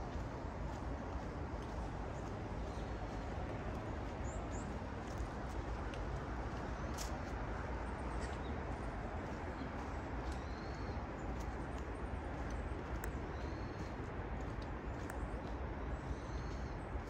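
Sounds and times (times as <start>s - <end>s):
low city hum: 0.0s - 17.0s.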